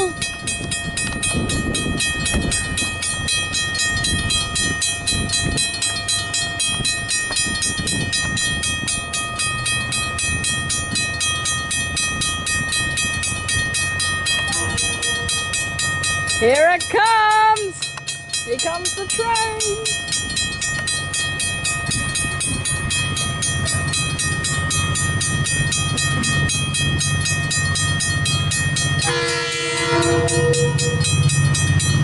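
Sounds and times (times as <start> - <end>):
diesel train engine rumble: 0.0 - 32.0
level crossing bells ringing: 0.0 - 32.0.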